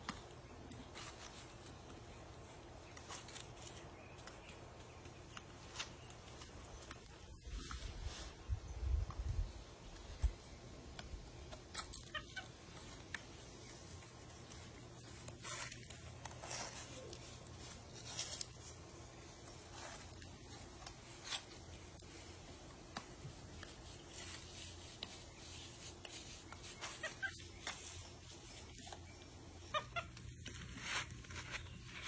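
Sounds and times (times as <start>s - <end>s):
gloved hands scraping and rustling: 0.0s - 32.0s.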